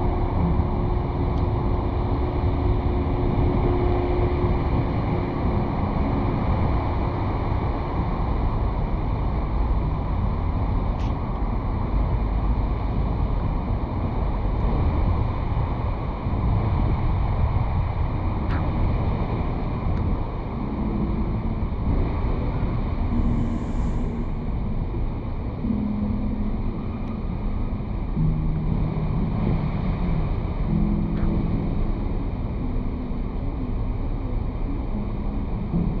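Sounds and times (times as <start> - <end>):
wind and road rumble: 0.0 - 36.0.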